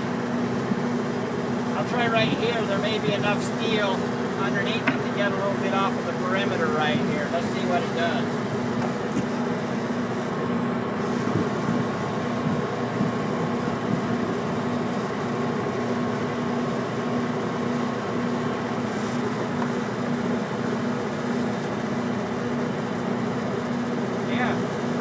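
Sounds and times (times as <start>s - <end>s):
generator mechanical hum: 0.0s - 25.0s.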